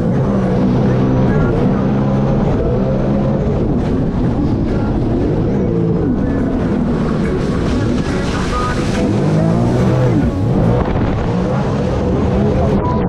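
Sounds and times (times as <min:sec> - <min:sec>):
jet ski engine running: 0:00.0 - 0:13.0
steady low rush: 0:00.0 - 0:13.0.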